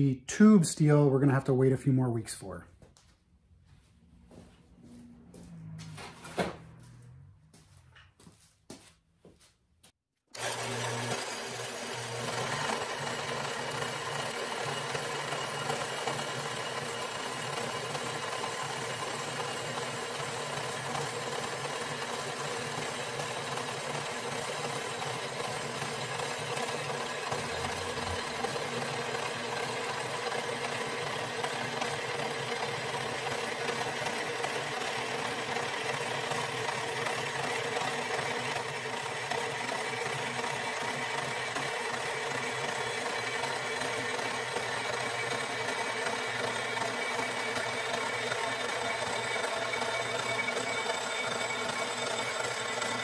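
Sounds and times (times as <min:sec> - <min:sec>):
band saw cutting steel: 0:10.3 - 0:53.0.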